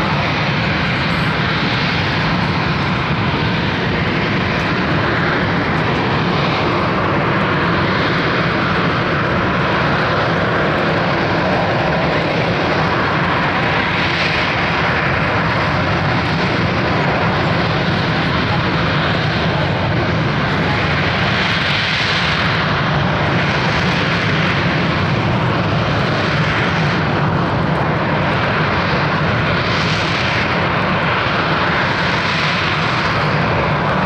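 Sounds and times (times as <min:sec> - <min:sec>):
jet engine roaring: 0:00.0 - 0:34.0.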